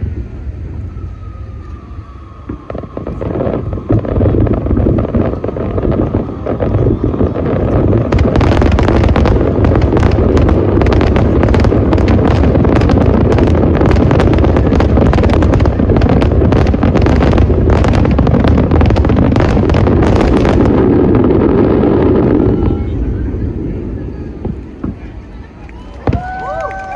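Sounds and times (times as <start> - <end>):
low rumble: 0.0 - 25.1
fireworks crackling bursts: 0.0 - 26.9.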